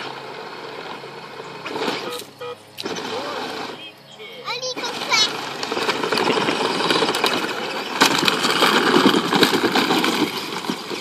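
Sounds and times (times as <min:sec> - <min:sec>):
toy car motors grinding: 0:00.0 - 0:11.0.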